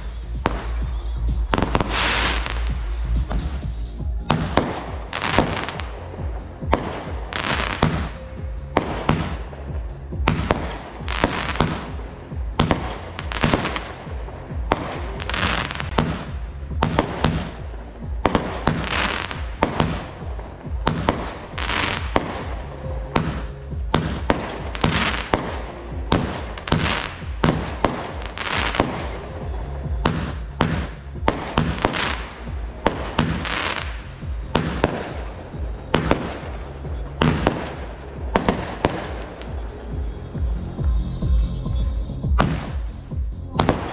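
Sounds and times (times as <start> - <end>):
fireworks popping and crackling: 0.0 - 41.2, 42.2 - 43.9
background music with beat: 0.0 - 43.9.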